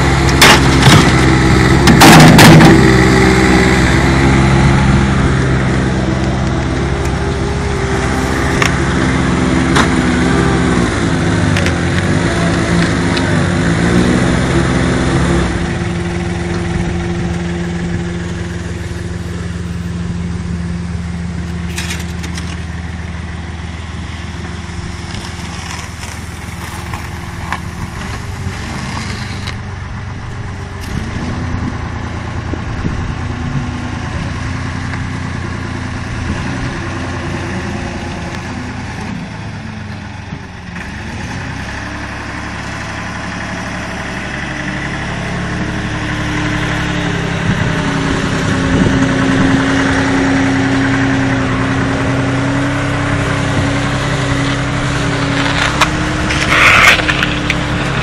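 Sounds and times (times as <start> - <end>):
loader engine running: 0.0 - 58.0.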